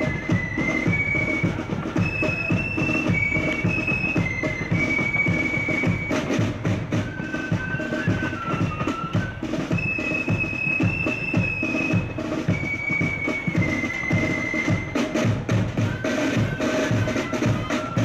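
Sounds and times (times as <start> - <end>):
flute band playing: 0.0 - 18.0
side drums and bass drum: 0.0 - 18.0.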